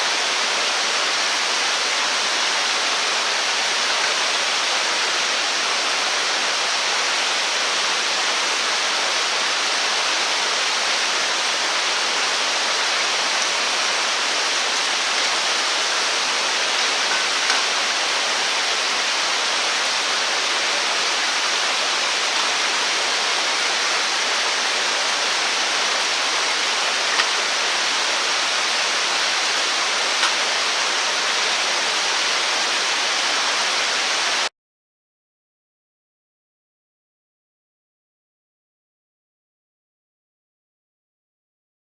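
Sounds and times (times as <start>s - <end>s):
running water rushing: 0.0s - 34.5s.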